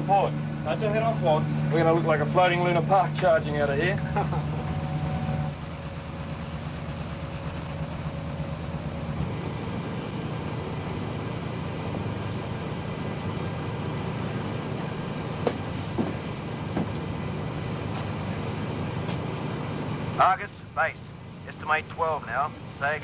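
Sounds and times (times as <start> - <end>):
boat engines running at low revs: 0.0 - 23.0.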